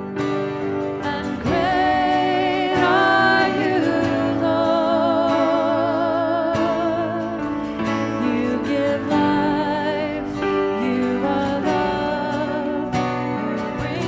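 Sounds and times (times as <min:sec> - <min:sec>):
person singing with vibrato: 0:00.1 - 0:14.0.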